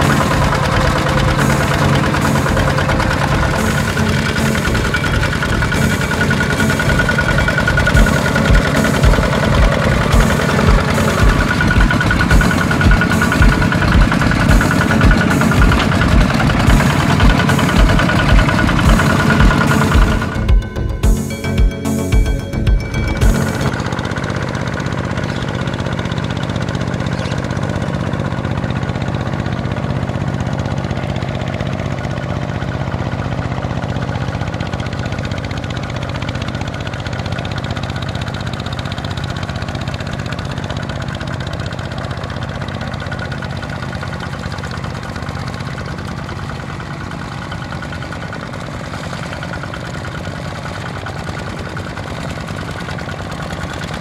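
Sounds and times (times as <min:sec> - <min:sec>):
wheels churning through mud: 0:00.0 - 0:20.7, 0:22.8 - 0:54.0
diesel tractor engine running: 0:00.0 - 0:54.0.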